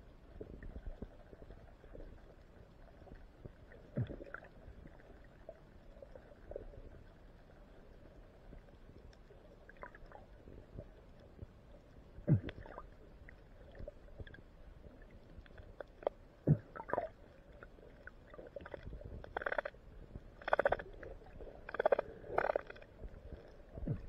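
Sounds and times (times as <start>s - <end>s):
small underwater clicks: 0.1s - 24.0s.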